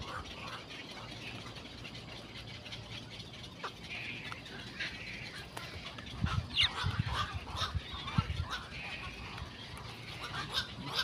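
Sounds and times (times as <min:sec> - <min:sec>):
harsh croaking bird calls: 0:00.0 - 0:11.0.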